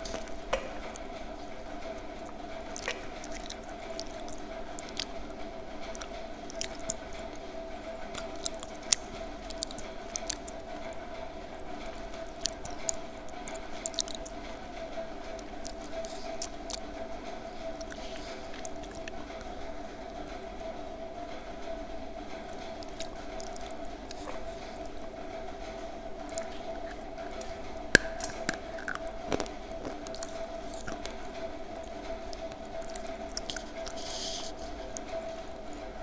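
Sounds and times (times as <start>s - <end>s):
chewing crunches and crackles: 0.0s - 20.3s, 22.2s - 35.3s
steady background hum: 0.0s - 36.0s.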